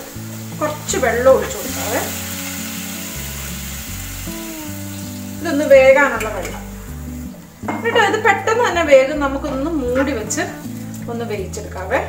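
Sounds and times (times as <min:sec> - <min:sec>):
chicken sizzling in a pan: 0:00.0 - 0:08.4, 0:09.4 - 0:12.0
background music: 0:00.0 - 0:12.0.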